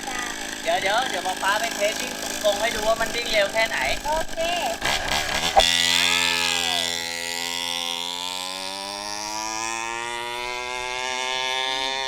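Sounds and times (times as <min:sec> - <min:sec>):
two-stroke dirt bike engine whining: 0:00.0 - 0:12.0.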